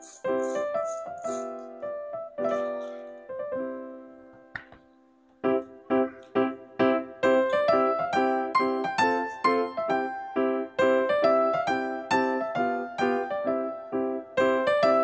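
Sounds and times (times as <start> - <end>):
bright keyboard tune: 0.0 - 15.0.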